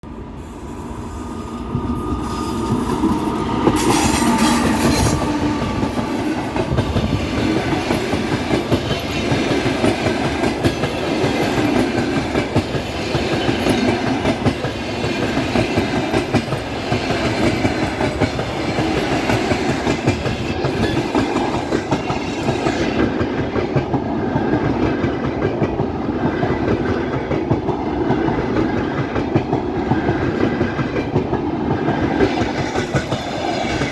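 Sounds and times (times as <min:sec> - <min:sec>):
train rumbling past: 0:00.0 - 0:33.9
wheels clacking over rail joints: 0:02.3 - 0:33.9.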